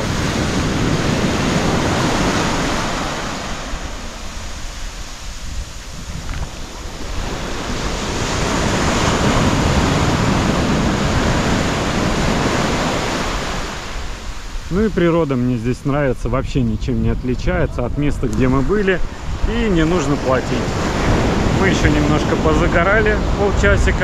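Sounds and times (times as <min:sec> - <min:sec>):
surf washing over sand: 0:00.0 - 0:24.0.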